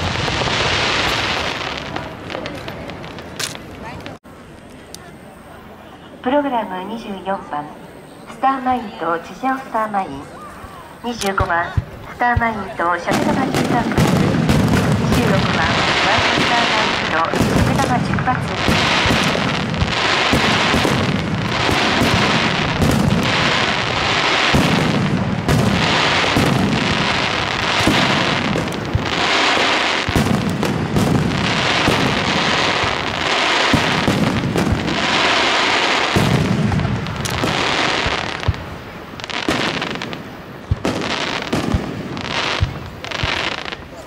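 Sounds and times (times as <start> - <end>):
fireworks booming: 0.0 - 4.3, 8.3 - 44.0
fireworks crackling: 0.0 - 44.0.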